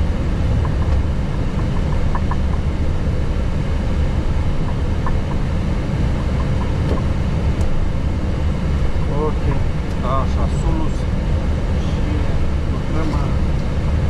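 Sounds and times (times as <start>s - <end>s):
jet engines idling rumble: 0.0s - 14.0s.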